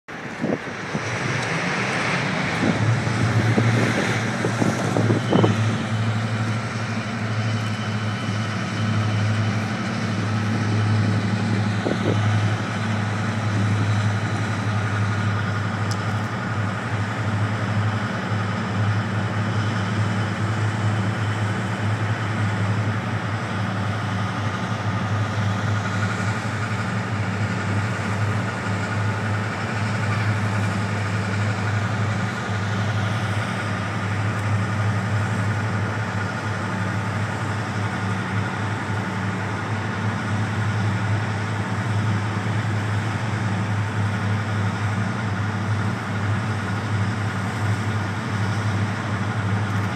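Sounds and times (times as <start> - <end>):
diesel locomotive engines idling: 0.1 - 49.9.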